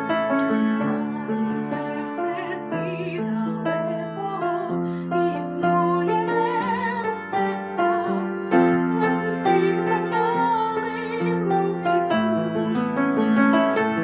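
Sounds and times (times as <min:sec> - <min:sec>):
piano accompaniment: 0:00.0 - 0:14.0
woman singing with vibrato: 0:00.6 - 0:12.0.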